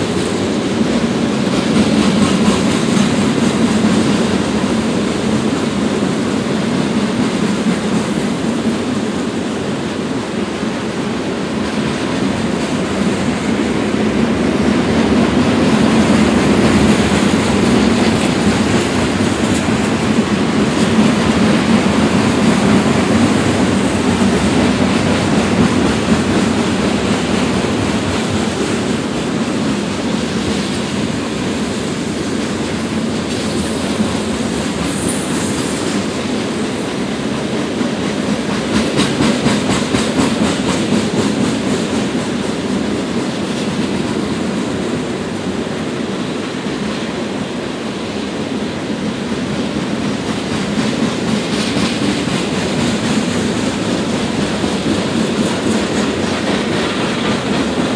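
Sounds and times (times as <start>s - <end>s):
train wheels clickety-clack on rails: 0.0s - 57.9s.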